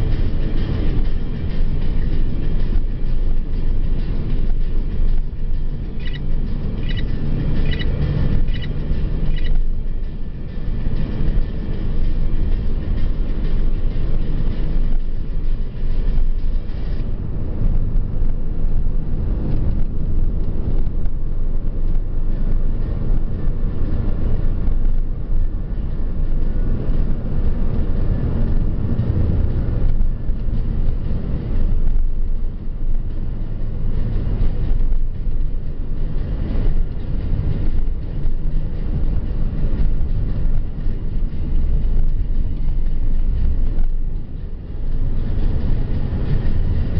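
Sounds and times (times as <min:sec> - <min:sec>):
car engine: 0:00.0 - 0:46.9
tyre noise on road: 0:00.0 - 0:46.9.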